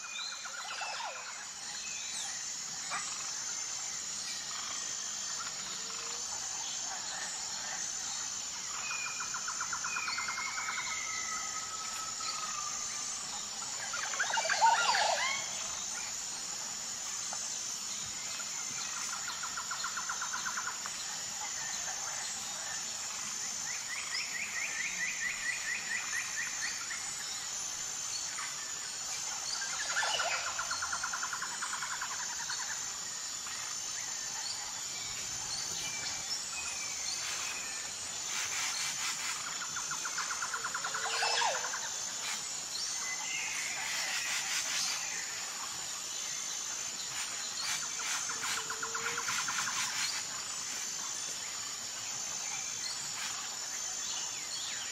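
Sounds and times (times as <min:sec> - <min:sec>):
high-pitched insect chorus: 0:00.0 - 0:54.9.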